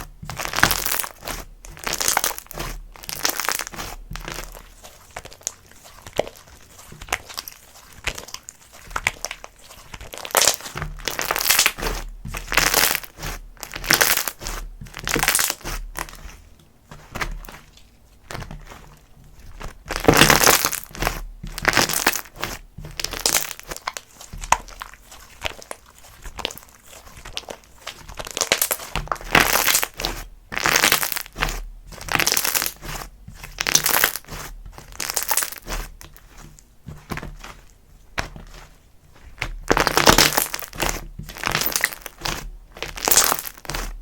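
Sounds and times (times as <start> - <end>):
slime squishing and crackling: 0.0 - 44.0.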